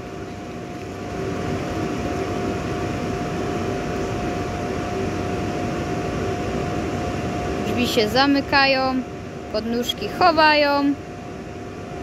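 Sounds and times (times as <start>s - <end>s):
faint constant whine: 0.0s - 12.0s.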